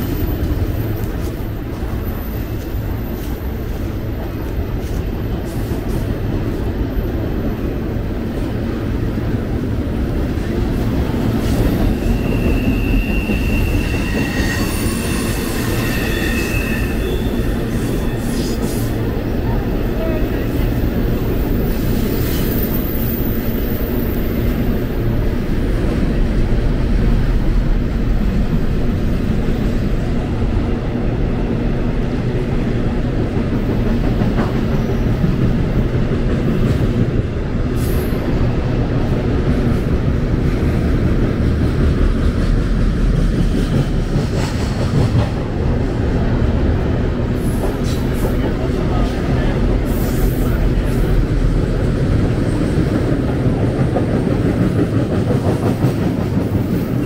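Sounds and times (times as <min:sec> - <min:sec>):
freight train rumbling over bridge: 0:00.0 - 0:57.0.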